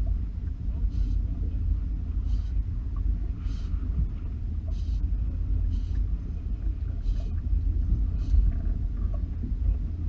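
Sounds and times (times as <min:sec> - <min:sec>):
low boat rumble: 0:00.0 - 0:10.0
water splashing against hull: 0:00.0 - 0:10.0.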